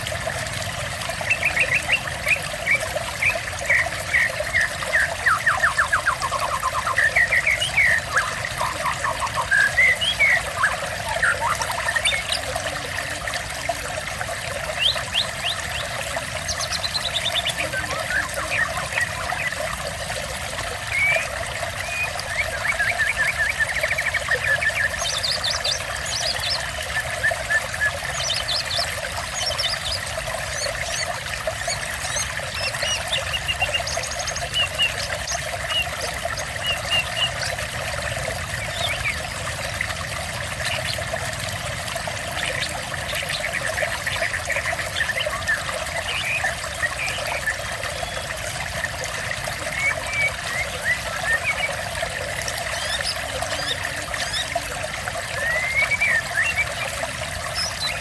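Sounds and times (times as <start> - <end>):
water trickling and splashing: 0.0 - 58.0
small birds chirping: 1.1 - 41.2, 42.4 - 58.0.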